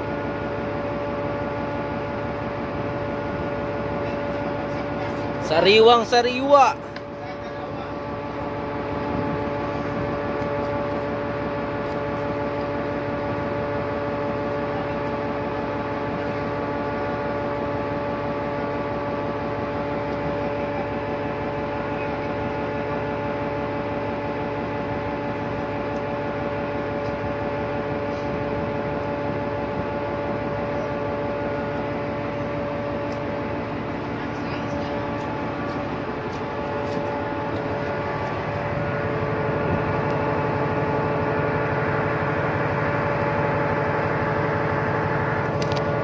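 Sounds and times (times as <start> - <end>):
ship machinery humming: 0.0 - 46.0.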